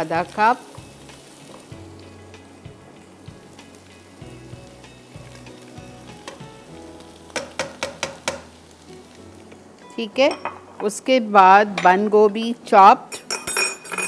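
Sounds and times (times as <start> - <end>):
food sizzling in hot oil: 0.0 - 13.4.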